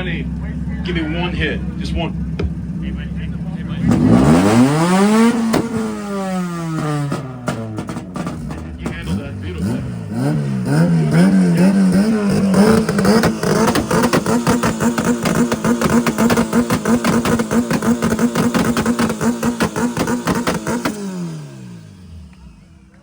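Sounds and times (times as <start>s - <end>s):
exhaust pops crackling: 0.0s - 9.8s, 10.6s - 21.0s
car engines revving: 0.0s - 23.0s.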